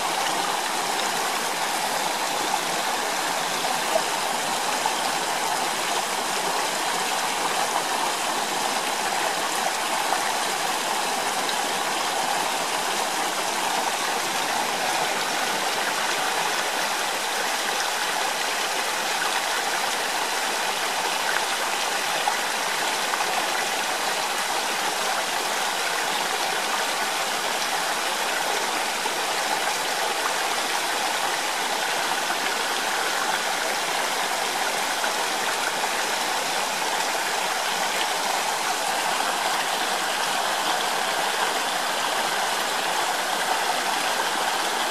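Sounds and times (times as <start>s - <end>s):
stream running: 0.0s - 44.9s.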